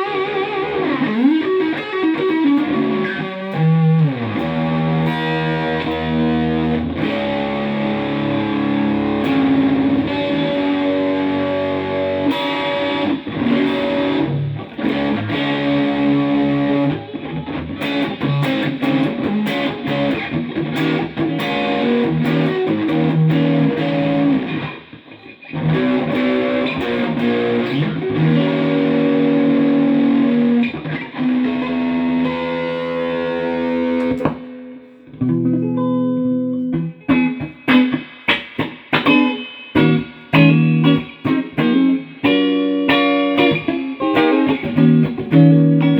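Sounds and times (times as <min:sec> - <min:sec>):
electric guitar through amplifier: 0:00.0 - 0:45.9.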